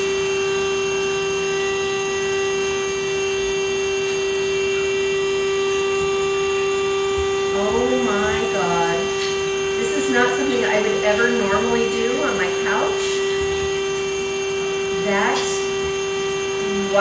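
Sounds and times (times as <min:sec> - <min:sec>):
grooming vacuum and trimmer humming: 0:00.0 - 0:17.0.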